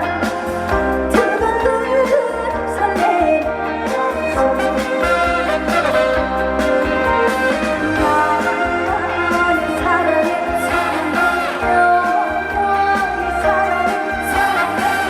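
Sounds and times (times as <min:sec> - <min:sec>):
amplified backing band: 0:00.0 - 0:15.0
woman singing: 0:00.9 - 0:15.0.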